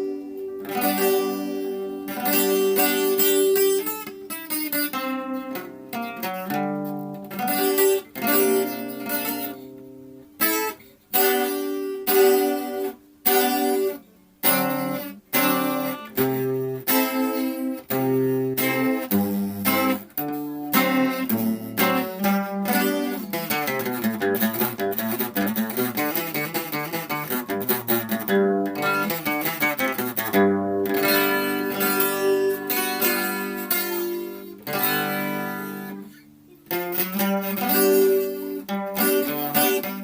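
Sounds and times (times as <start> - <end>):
acoustic guitar chords: 0.0 - 40.0.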